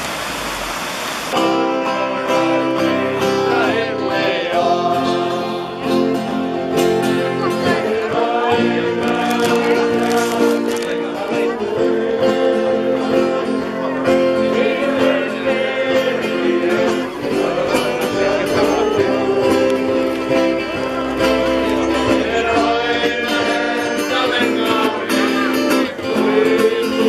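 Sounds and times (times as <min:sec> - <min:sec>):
acoustic guitar: 0:01.3 - 0:27.0
person singing: 0:01.4 - 0:27.0.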